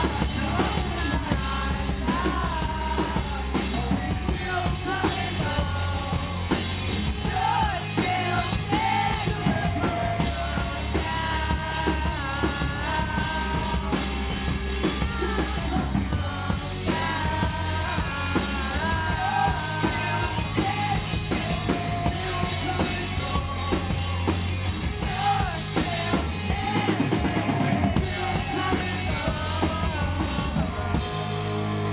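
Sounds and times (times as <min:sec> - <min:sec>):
drum kit steady beat: 0:00.0 - 0:31.9
electric guitar: 0:00.0 - 0:31.9
man singing lead vocal: 0:00.0 - 0:31.9.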